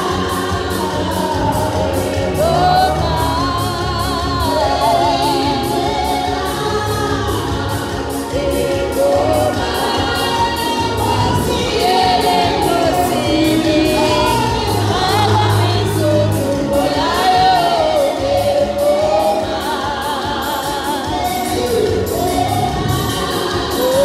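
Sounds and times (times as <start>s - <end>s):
choir singing gospel: 0.0s - 24.0s
lead voice singing: 0.0s - 24.0s.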